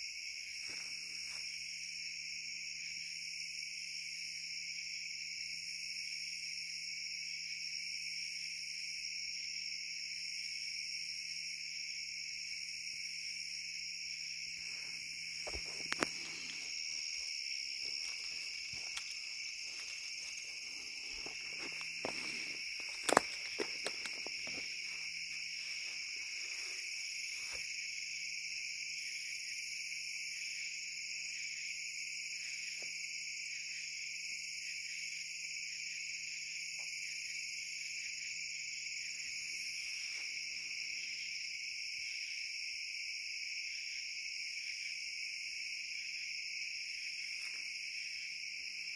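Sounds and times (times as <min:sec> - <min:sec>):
night insects trilling: 0:00.0 - 0:48.9.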